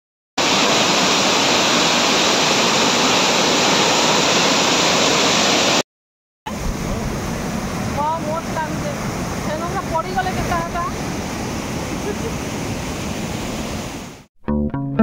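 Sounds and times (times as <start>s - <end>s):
waterfall roaring: 0.4s - 5.8s, 6.5s - 14.2s.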